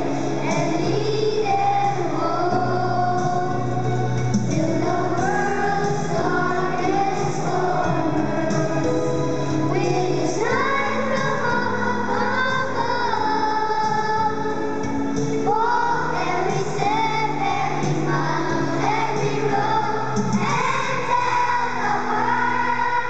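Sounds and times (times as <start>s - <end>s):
group singing church song: 0.0s - 14.6s, 15.4s - 23.0s
instrumental accompaniment: 0.0s - 23.0s.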